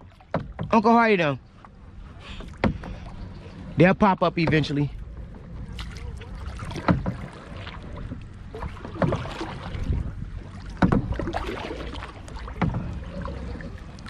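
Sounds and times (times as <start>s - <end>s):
paddle strokes splashing water: 0.0s - 14.0s
wind rumble on microphone: 1.5s - 14.0s.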